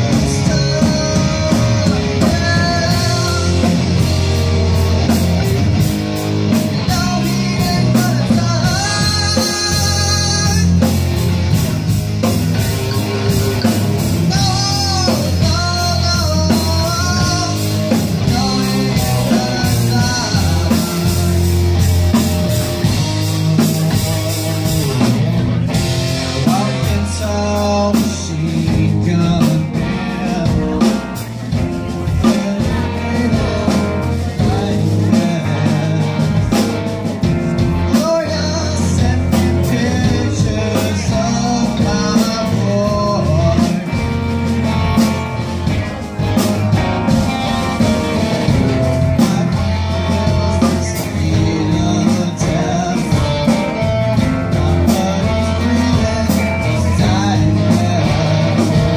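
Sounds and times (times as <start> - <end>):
distorted electric guitars: 0.0 - 58.9
drum kit: 0.0 - 58.9
electric bass: 0.0 - 58.9
lead vocal singing: 0.0 - 58.9.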